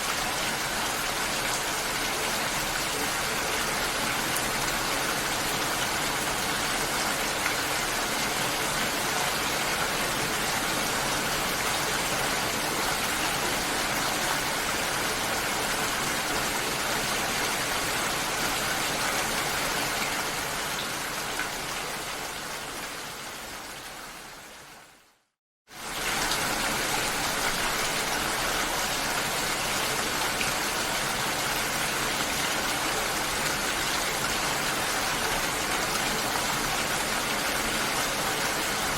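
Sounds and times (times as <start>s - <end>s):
rain falling: 0.0s - 25.1s, 25.7s - 38.9s.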